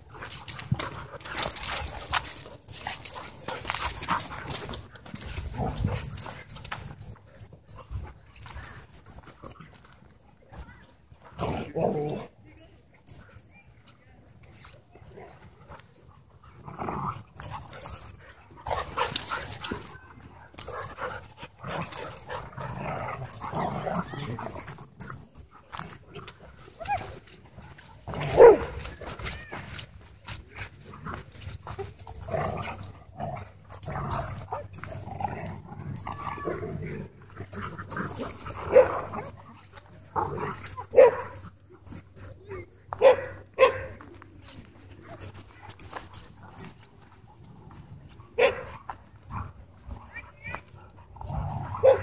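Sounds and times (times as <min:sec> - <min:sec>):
dogs barking and yipping: 0:00.0 - 0:12.3, 0:15.4 - 0:30.0, 0:30.6 - 0:52.0.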